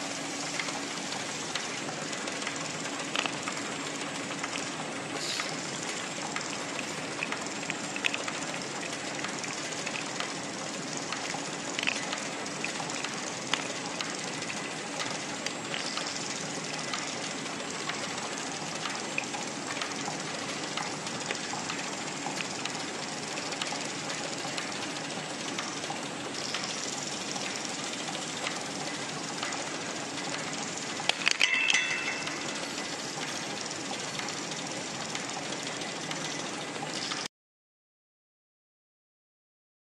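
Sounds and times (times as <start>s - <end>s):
bottling machine clatter: 0.0s - 37.3s.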